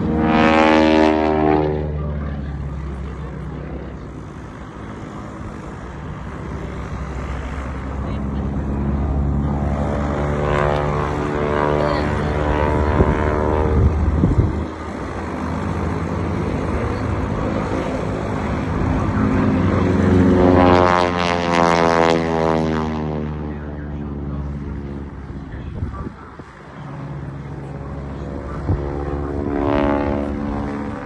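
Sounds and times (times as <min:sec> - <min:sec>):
propeller airplane engine droning: 0:00.0 - 0:31.0.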